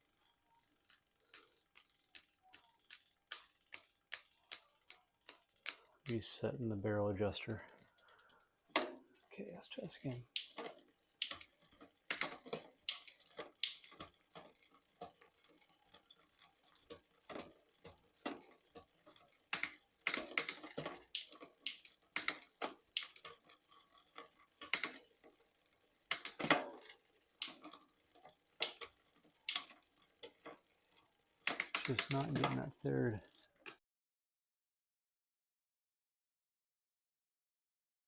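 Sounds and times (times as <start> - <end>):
bicycle chain clicking over cogs: 0.0 - 33.8
bicycle derailleur shifting: 0.0 - 33.8.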